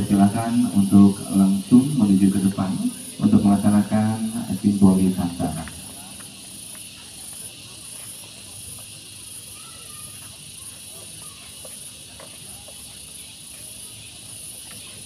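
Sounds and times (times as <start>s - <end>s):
pulsing high-pitched hiss: 0.0s - 15.0s.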